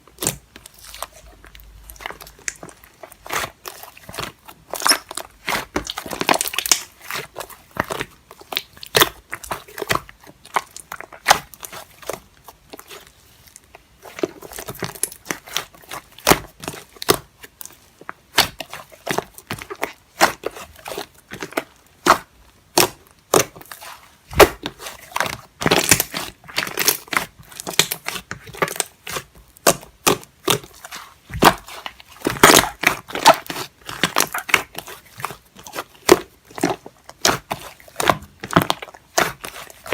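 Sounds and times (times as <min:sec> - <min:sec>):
crackling and crinkling: 0:00.0 - 0:39.9.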